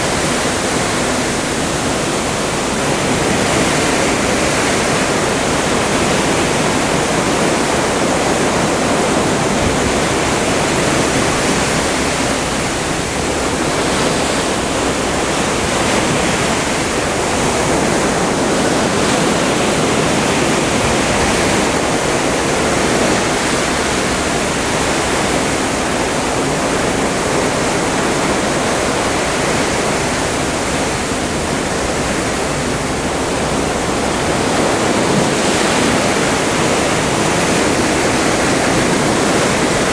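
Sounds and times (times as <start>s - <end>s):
seawater rushing along ship hull: 0.0s - 39.9s.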